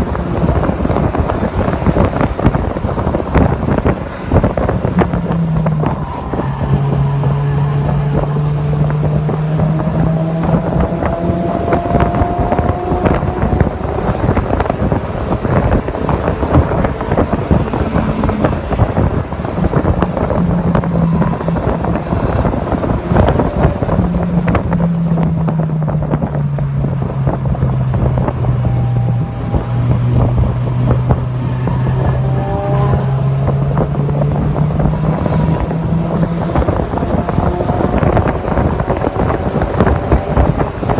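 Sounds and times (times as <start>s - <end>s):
car engine running hard: 0.0s - 40.9s
wind buffeting microphone: 0.0s - 40.9s.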